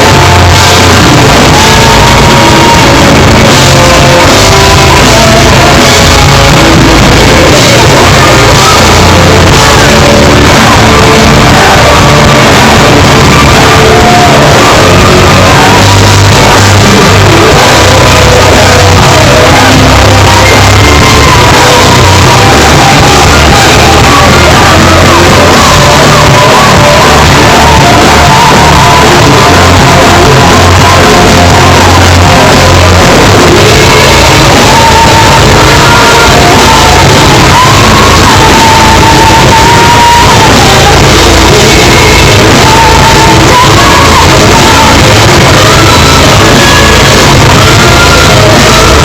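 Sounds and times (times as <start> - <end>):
metal band playing: 0.0 - 49.0
person singing: 0.0 - 49.0.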